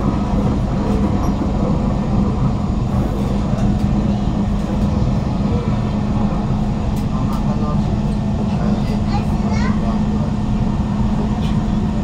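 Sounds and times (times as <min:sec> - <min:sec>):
train car running rumble: 0:00.0 - 0:12.0.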